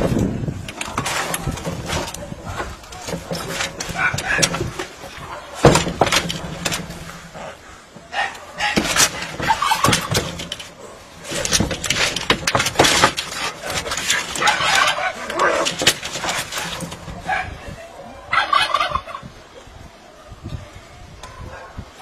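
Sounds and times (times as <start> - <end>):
scuffling on metal roof sheet: 0.0 - 17.8.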